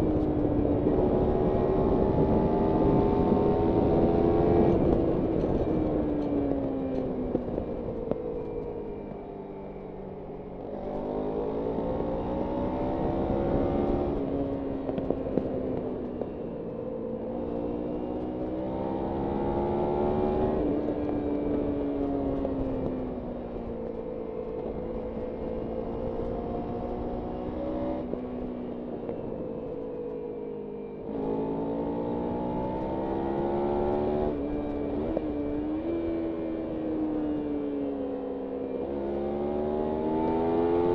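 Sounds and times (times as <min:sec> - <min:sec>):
motorcycle engine revving through gears: 0:00.0 - 0:40.9
road and wind noise: 0:00.0 - 0:40.9.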